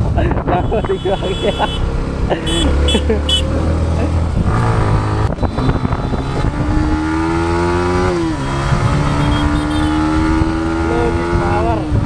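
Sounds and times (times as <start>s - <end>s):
motorcycle engine accelerating: 0.8s - 12.0s.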